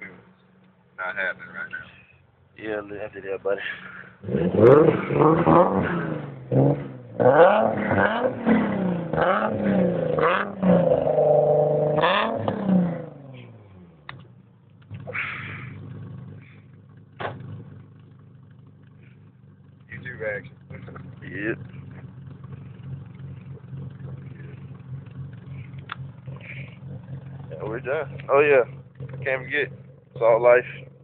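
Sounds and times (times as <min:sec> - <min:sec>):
car engine revving and idling: 0:00.0 - 0:31.0.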